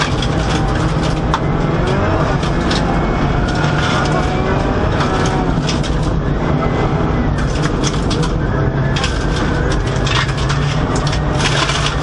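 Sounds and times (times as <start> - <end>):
rally car engine running hard: 0.0 - 12.0.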